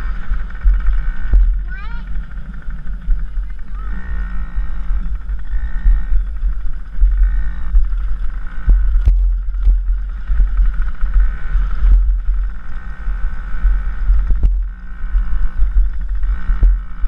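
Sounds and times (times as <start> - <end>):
dirt bike engine: 0.0 - 17.0
wind buffeting microphone: 0.0 - 17.0.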